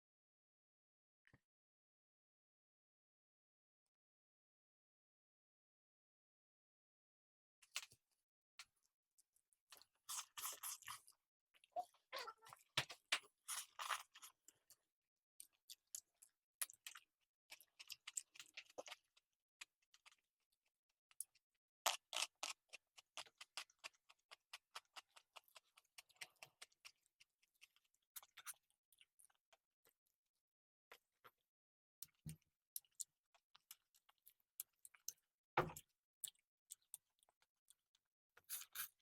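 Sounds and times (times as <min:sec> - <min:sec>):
chewing and crunching food: 0:07.6 - 0:39.0.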